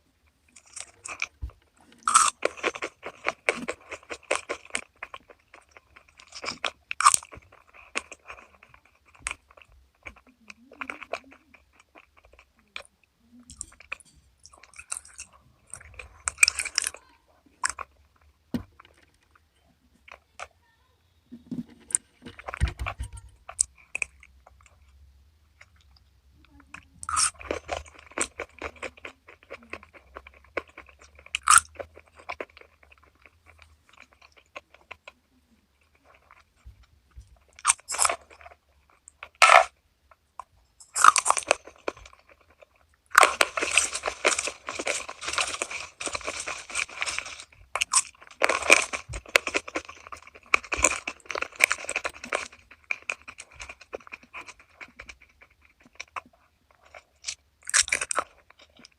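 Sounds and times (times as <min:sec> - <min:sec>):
crunching and chewing crispy food: 0:00.0 - 0:20.8, 0:21.8 - 0:58.9.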